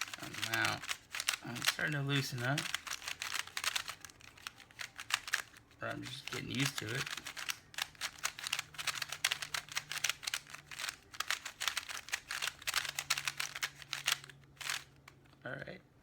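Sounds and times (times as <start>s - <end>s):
plastic cube clicking and clacking: 0.0s - 15.2s.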